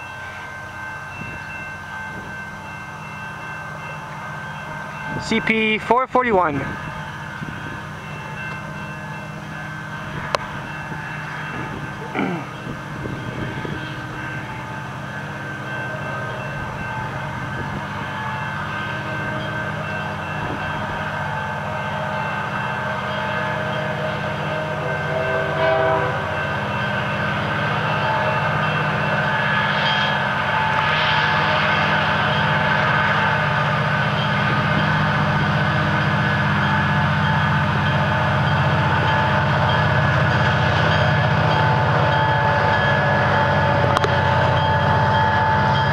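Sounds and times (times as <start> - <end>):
diesel locomotive engine drone: 0.0 - 45.9.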